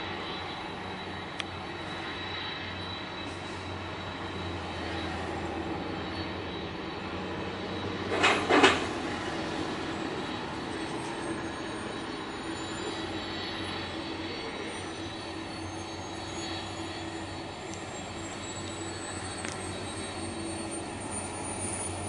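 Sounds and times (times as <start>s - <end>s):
high engine whine: 0.0s - 22.0s
jet engines rumbling: 0.0s - 22.0s.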